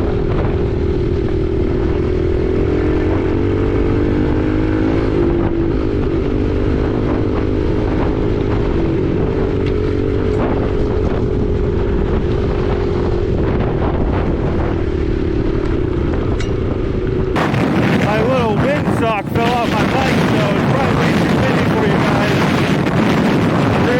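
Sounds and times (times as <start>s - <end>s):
dirt bike engine running: 0.0s - 23.9s
wind buffeting microphone: 0.0s - 23.9s.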